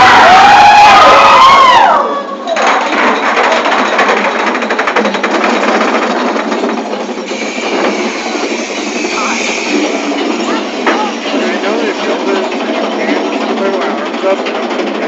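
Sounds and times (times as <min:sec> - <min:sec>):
roller coaster clattering on track: 0:00.1 - 0:15.0.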